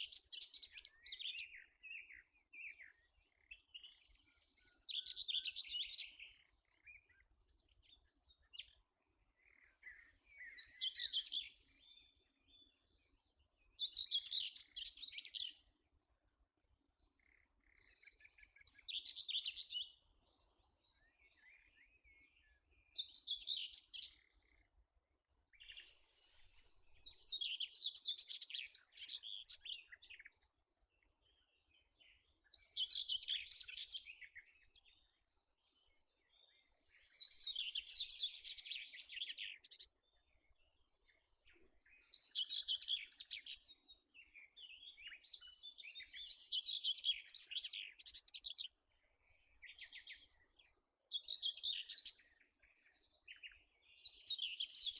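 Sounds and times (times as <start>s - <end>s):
faint bird chirps: 0.0s - 54.9s.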